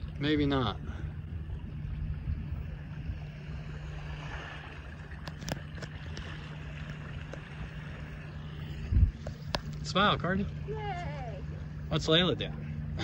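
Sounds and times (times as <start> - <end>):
constant low hum: 0.0 - 13.0
wind and water rushing: 0.0 - 13.0.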